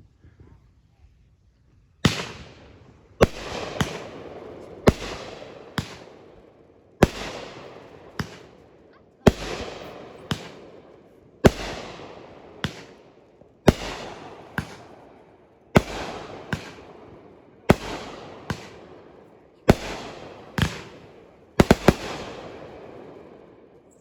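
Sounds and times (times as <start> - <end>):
fireworks bangs with echo: 2.0 - 24.0.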